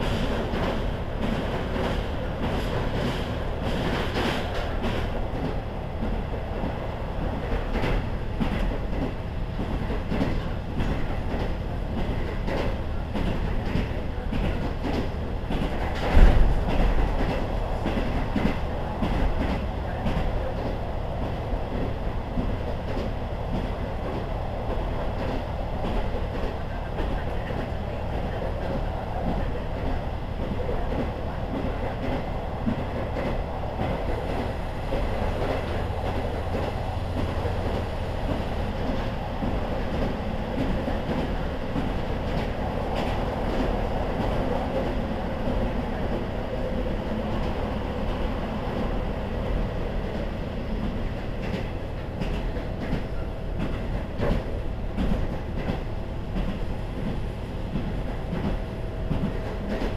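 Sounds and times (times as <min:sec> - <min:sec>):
train engine and wheels rumbling: 0:00.0 - 0:59.9.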